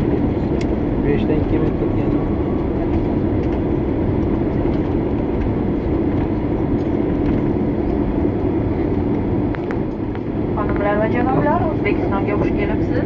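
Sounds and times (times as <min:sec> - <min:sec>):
airliner engines droning: 0:00.0 - 0:13.0
airliner rolling rumble: 0:00.0 - 0:13.0.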